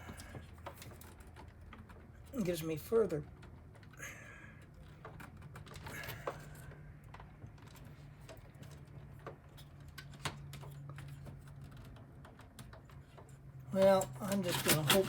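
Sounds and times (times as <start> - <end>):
small clicks and taps: 0.0 - 2.3, 4.6 - 15.0.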